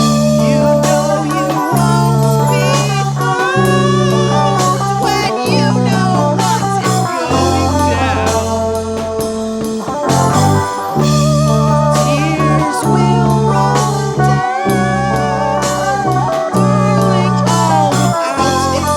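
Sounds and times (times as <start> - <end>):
lead guitar bending notes: 0.0 - 18.9
sustained bass notes: 0.0 - 18.9.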